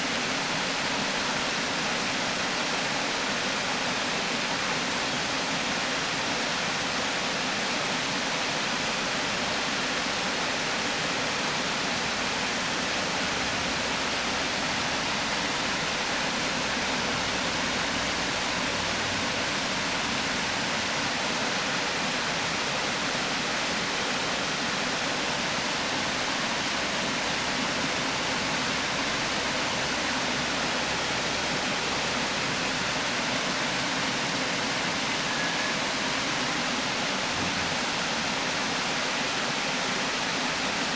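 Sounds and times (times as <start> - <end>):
water rushing over a weir: 0.0 - 40.9.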